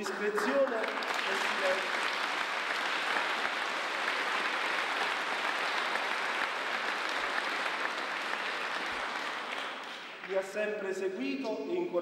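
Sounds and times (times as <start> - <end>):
congregation applauding: 0.0 - 10.8.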